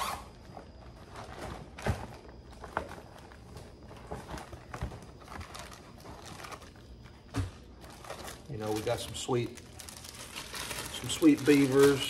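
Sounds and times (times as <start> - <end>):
plastic packs knocking and clicking: 1.1 - 12.0.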